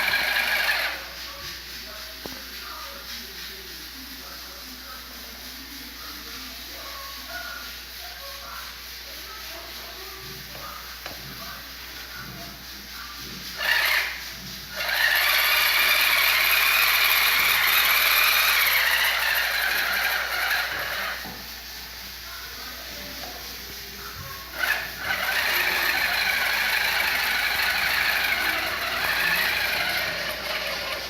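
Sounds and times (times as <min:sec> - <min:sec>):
small electric motor and gears whirring: 0:00.0 - 0:31.0.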